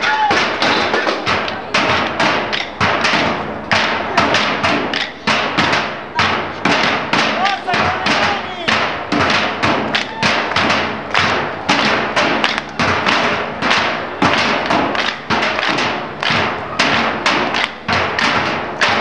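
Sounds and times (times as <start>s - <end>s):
sticks beating metal drums: 0.0s - 19.0s.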